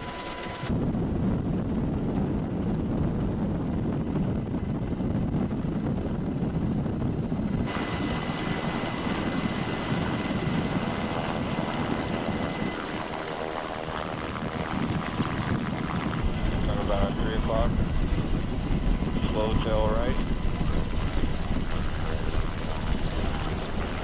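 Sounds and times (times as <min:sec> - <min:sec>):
helicopter rotor and engine rumble: 0:00.0 - 0:24.0
high whine: 0:00.0 - 0:24.0.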